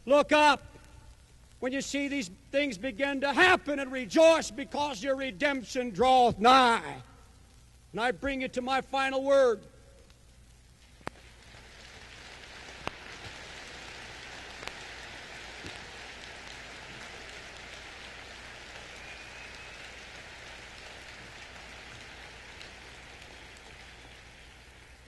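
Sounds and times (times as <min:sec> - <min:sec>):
steady rain-like hiss: 0:00.0 - 0:25.0.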